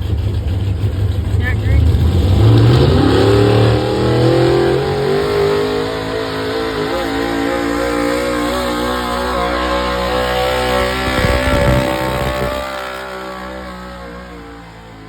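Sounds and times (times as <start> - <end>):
vehicle engine running hard: 0.0 - 15.0.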